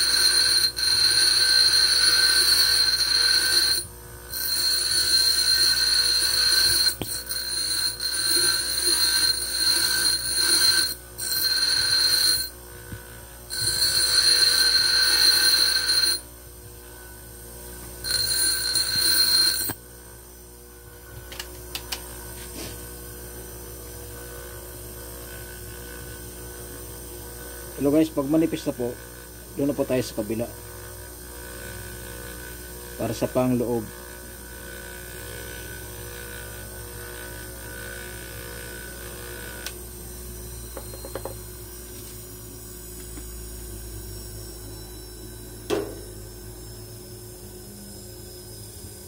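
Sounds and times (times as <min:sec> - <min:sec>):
bench grinder grinding steel: 0:00.0 - 0:19.8, 0:23.8 - 0:46.4
grinder spinning with low hum: 0:00.0 - 0:49.0.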